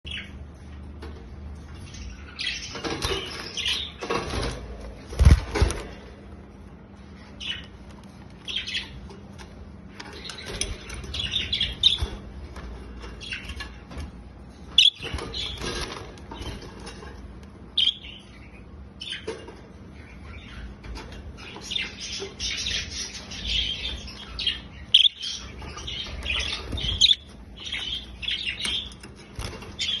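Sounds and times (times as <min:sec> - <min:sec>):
budgies chirping: 0:00.0 - 0:06.2, 0:07.0 - 0:30.0.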